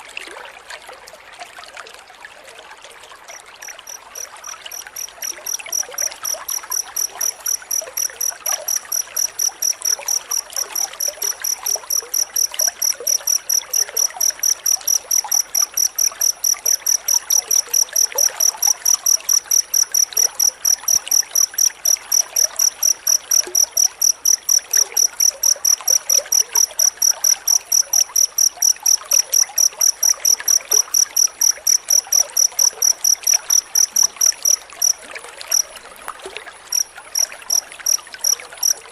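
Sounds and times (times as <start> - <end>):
cricket chirping: 3.3 - 38.9.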